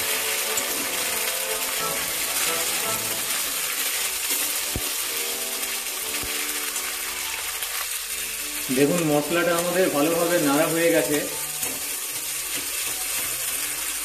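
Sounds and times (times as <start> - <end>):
hot oil sizzling: 0.0 - 14.0.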